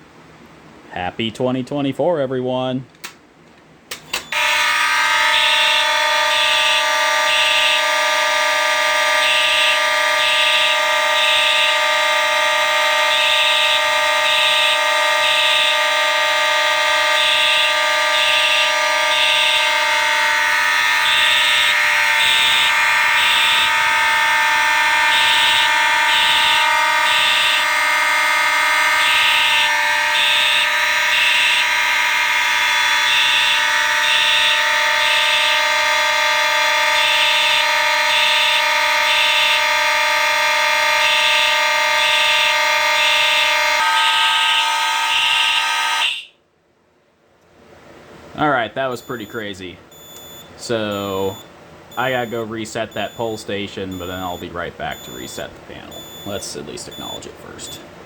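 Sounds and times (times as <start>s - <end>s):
steady fire alarm horn tone: 4.1s - 46.5s, 48.5s - 57.9s
pulsing fire alarm horns: 4.2s - 46.4s, 48.8s - 57.8s.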